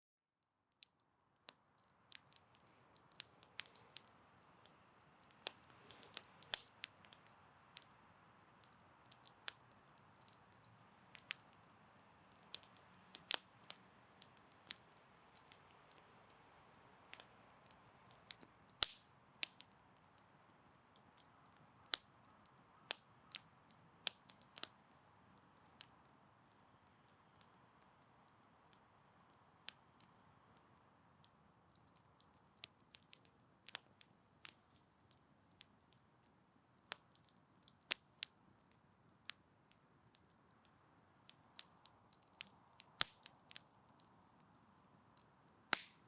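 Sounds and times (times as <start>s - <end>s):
campfire crackling and popping: 0.7s - 46.0s
faint hiss of flame: 0.8s - 46.0s.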